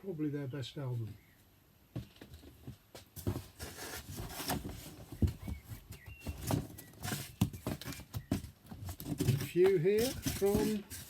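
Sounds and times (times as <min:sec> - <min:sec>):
rustling: 0:02.0 - 0:11.0.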